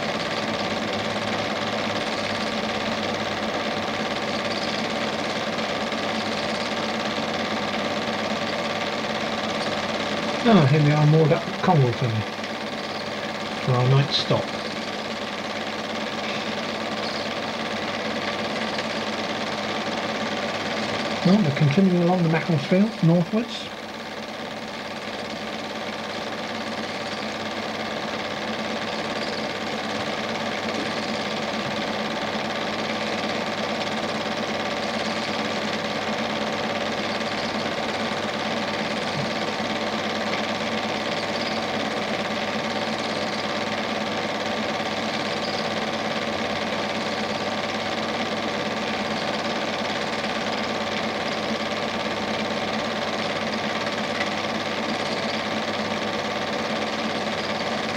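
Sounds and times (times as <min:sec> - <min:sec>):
film projector whirring and clattering: 0:00.0 - 0:57.9.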